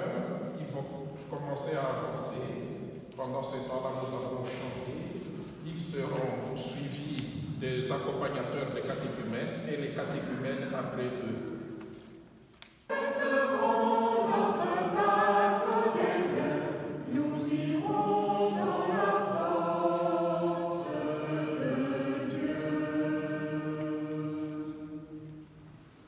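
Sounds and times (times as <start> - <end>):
church choir singing a hymn: 0.0 - 11.9, 12.9 - 25.9.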